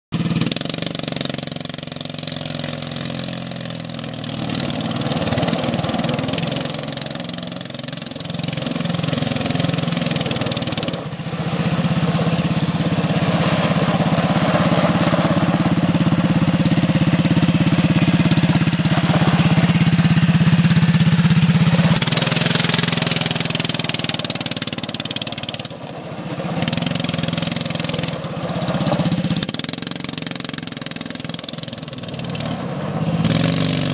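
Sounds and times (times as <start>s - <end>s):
small engine revving: 0.2s - 33.9s.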